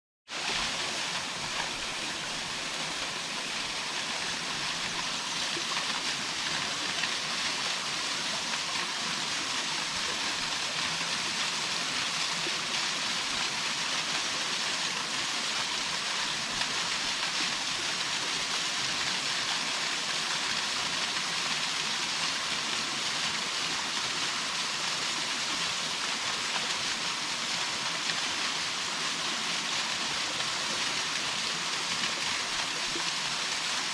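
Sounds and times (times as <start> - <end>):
waterfall rushing: 0.3 - 23.0, 23.8 - 33.9.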